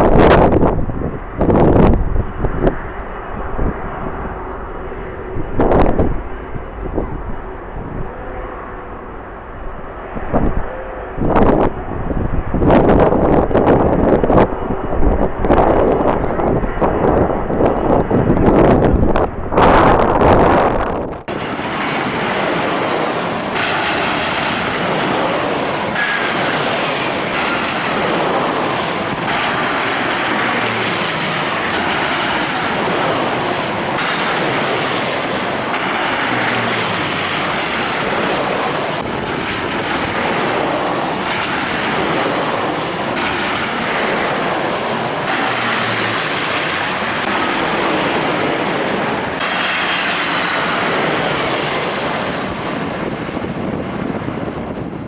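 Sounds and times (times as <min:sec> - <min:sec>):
jet engines roaring: 0:00.0 - 0:55.0
wind on microphone: 0:00.0 - 0:55.0.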